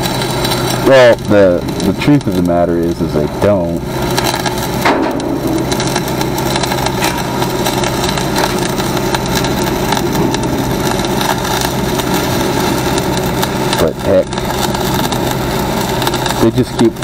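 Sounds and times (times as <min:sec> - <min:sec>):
engine humming: 0:00.0 - 0:17.0
welding arc crackling: 0:00.0 - 0:17.0.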